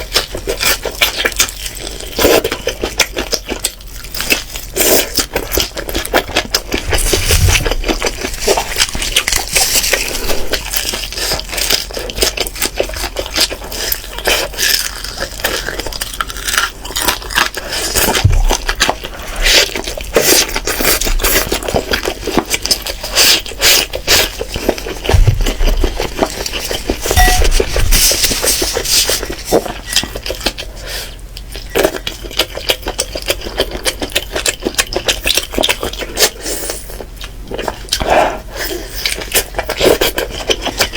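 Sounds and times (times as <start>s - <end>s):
chewing chicken close up: 0.0s - 40.9s.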